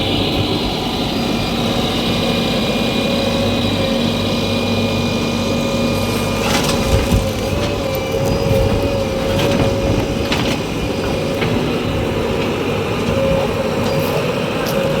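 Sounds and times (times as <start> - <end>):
heavy machinery diesel engine: 0.0 - 15.0.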